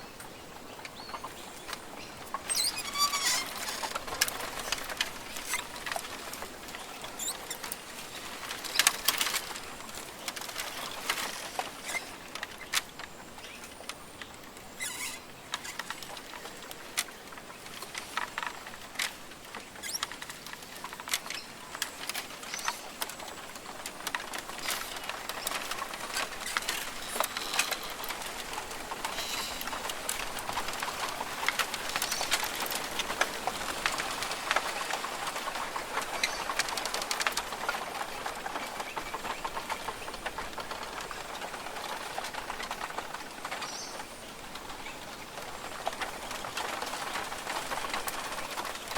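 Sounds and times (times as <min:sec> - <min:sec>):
small irregular clicks and taps: 0:00.2 - 0:48.9.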